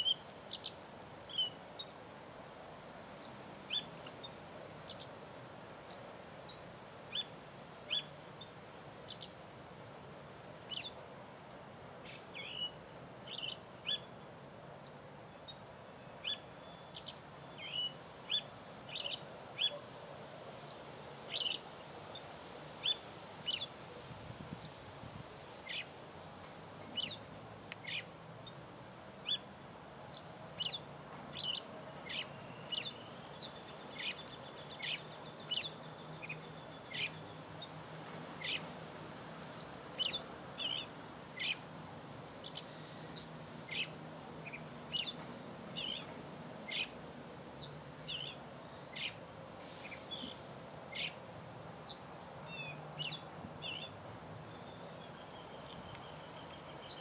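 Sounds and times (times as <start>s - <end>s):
small birds chirping: 0.0s - 2.2s, 2.9s - 9.4s, 10.6s - 11.1s, 12.0s - 19.8s, 20.4s - 24.8s, 25.6s - 25.9s, 26.8s - 57.0s.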